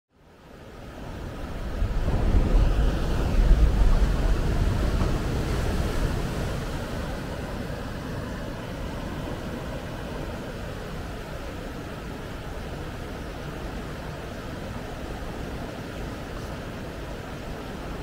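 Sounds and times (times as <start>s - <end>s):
waves breaking on beach: 0.4s - 18.0s.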